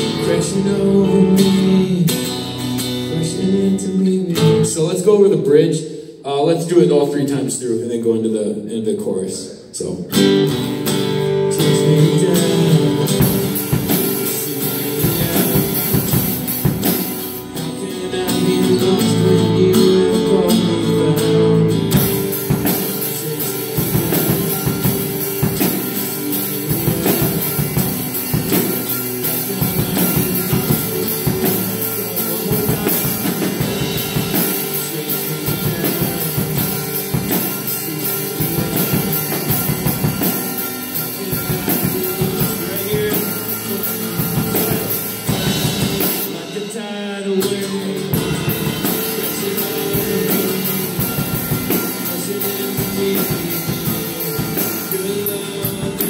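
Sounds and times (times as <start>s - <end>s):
drum kit beat: 0.0s - 4.7s, 10.1s - 56.0s
acoustic guitar strummed: 0.0s - 5.7s, 9.9s - 56.0s.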